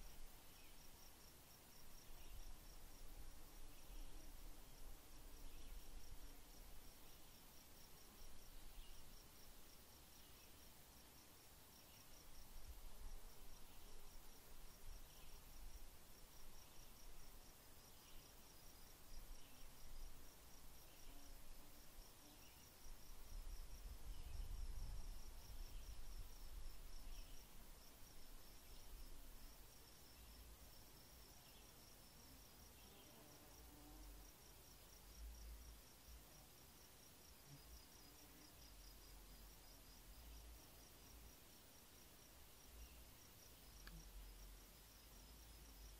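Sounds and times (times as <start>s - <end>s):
insect chirping: 0.0s - 45.9s.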